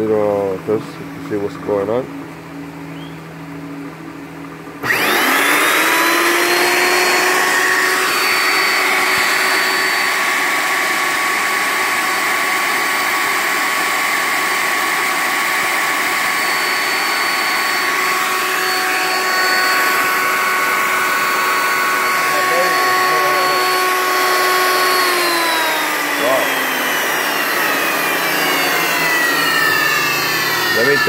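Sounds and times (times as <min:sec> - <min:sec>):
electric motor whining: 0:04.8 - 0:31.0.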